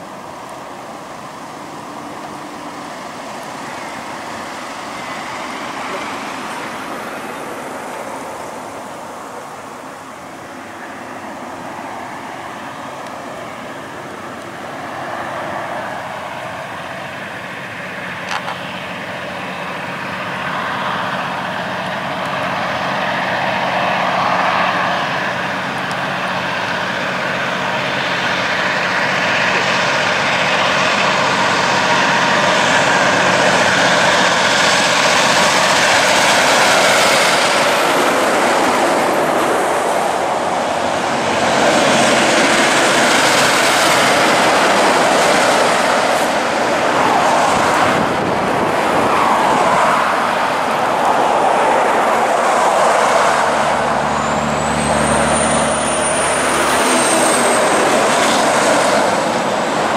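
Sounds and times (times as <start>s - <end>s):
heavy trucks passing: 0.0s - 59.9s.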